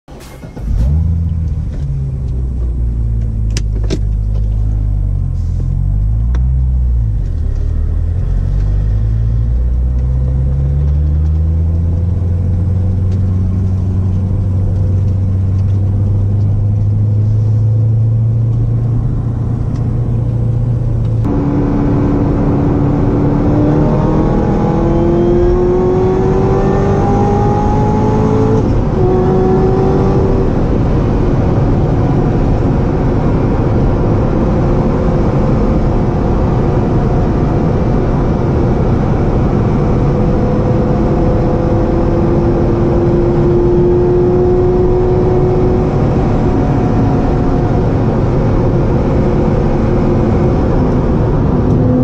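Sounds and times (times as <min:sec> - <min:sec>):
car engine revving: 0:00.1 - 0:52.0
wind and road noise: 0:00.1 - 0:52.0.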